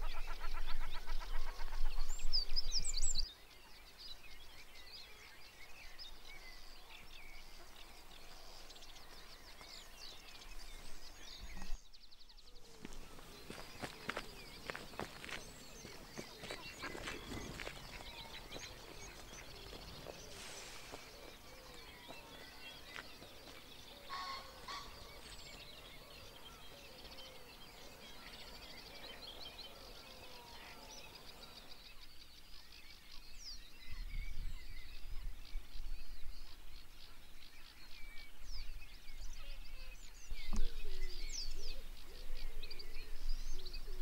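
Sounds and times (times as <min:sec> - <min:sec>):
birds dawn chorus: 0:00.0 - 0:44.0.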